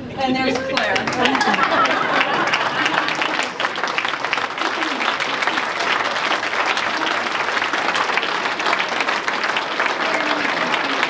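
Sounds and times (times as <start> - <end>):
crowd applauding: 0.5 - 11.0.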